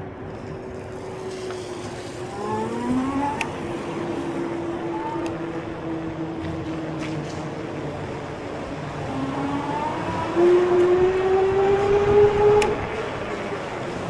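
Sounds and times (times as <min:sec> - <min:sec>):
electric motor whining: 0:00.8 - 0:07.0, 0:08.0 - 0:13.2.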